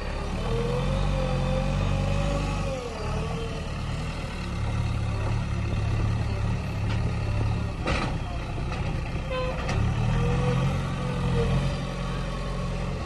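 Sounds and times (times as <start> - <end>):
heavy diesel engines rumbling: 0.0 - 13.0.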